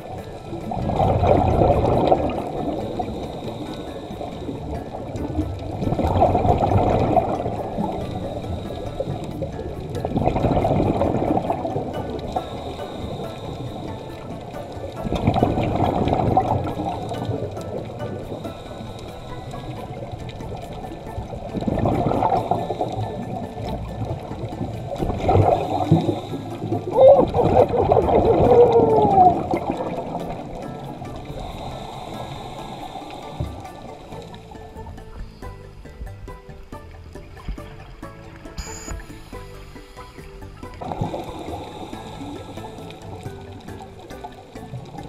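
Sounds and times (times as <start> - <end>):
low rush of water: 0.0 - 45.0
underwater bubbles gurgling: 0.0 - 45.0.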